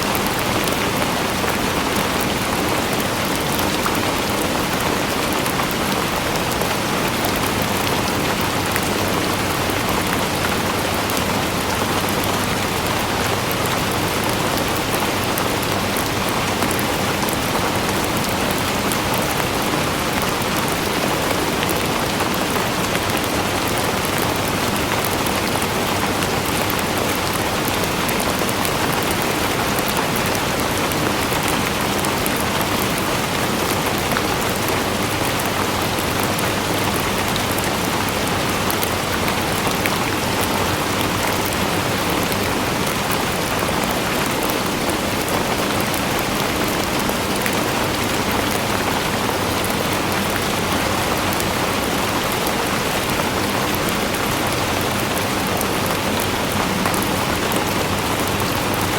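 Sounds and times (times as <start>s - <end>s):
heavy rain pattering: 0.0s - 58.9s.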